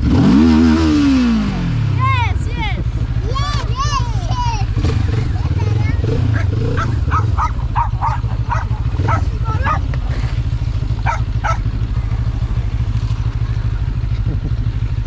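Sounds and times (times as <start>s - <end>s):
motorcycle engine idling: 1.2s - 15.0s.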